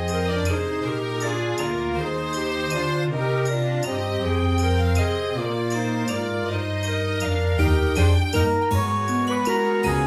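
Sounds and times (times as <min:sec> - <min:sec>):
melodic music over held bass: 0:00.0 - 0:10.0.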